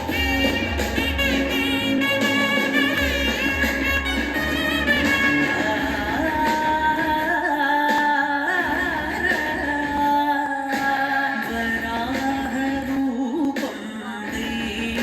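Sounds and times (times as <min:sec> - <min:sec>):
instrumental backing: 0:00.0 - 0:15.0
person singing: 0:00.0 - 0:15.0.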